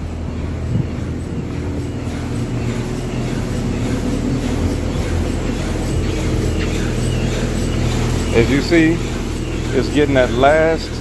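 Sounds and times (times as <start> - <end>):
machine pumps humming: 0.0 - 11.0.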